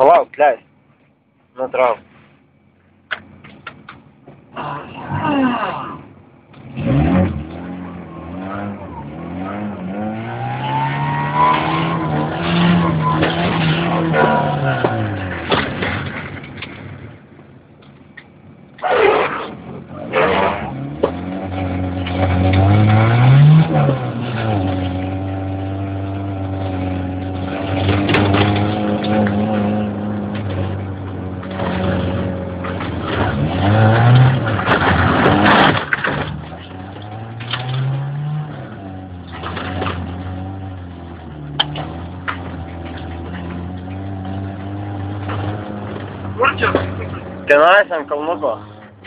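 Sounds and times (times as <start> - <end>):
engine revving: 4.5 - 16.1, 18.8 - 49.0.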